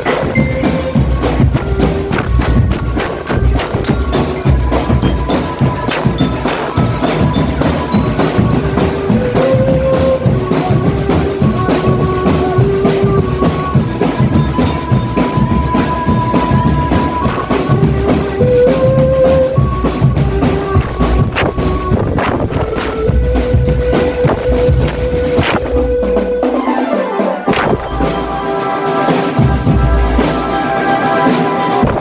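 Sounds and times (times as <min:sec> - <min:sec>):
melody of long held notes: 0:00.0 - 0:32.0
rapid drum strokes: 0:00.0 - 0:32.0.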